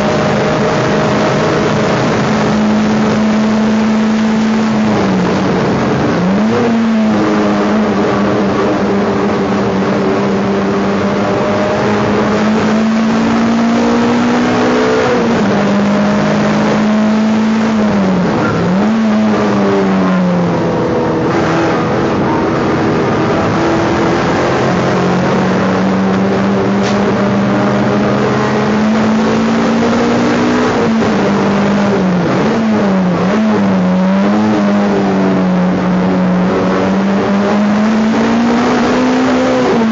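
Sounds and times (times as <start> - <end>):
race car engine from inside cabin: 0.0 - 39.9.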